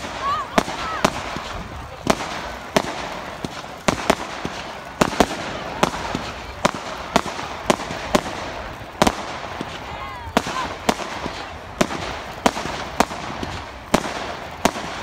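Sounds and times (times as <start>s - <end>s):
fireworks exploding: 0.0s - 15.0s.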